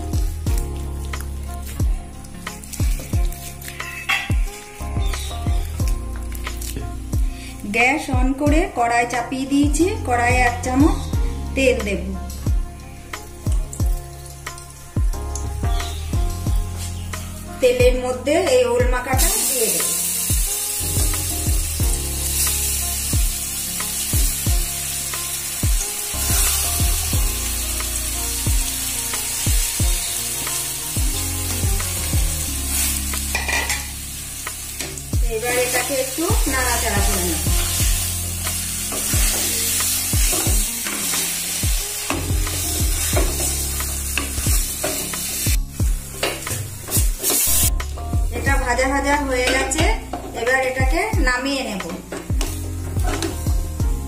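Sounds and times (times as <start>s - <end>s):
background music with drum beat: 0.0s - 7.5s, 8.1s - 8.7s, 9.6s - 18.0s, 18.8s - 48.8s, 49.4s - 54.0s
food sizzling in hot oil: 0.0s - 8.0s, 9.5s - 54.0s.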